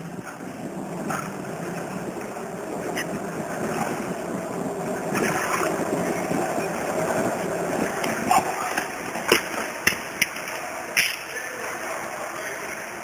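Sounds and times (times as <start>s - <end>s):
skateboard wheels rolling on concrete: 0.0s - 13.0s.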